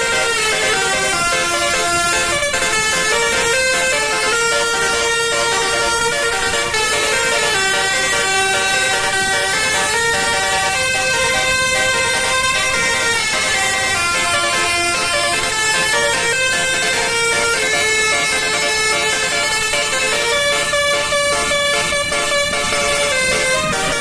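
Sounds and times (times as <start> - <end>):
multi-tone bus horn melody: 0.0 - 24.0.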